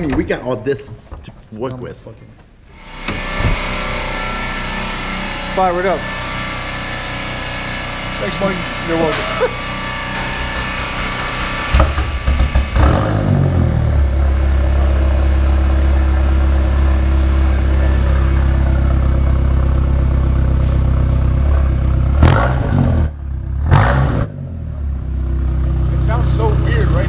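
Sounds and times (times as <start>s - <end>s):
car engine starting and idling: 2.7s - 27.0s
engine revving: 2.8s - 27.0s.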